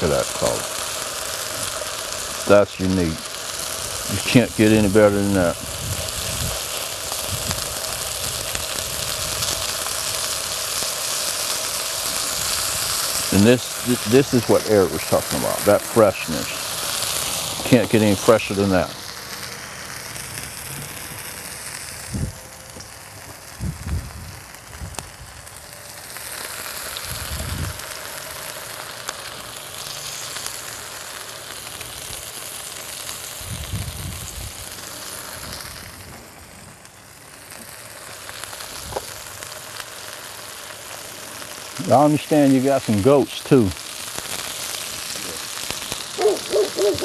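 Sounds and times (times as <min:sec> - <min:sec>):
vegetables sizzling in skillet: 0:00.0 - 0:47.0.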